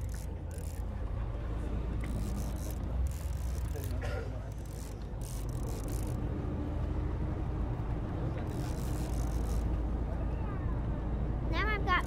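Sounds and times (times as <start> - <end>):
boat engines rumbling: 0.0 - 12.0
wind: 0.0 - 12.0.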